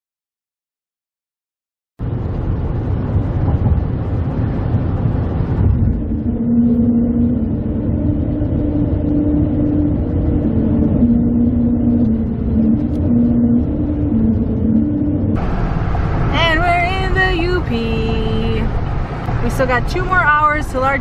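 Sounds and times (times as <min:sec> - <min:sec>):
truck cab road rumble: 0:02.0 - 0:21.0.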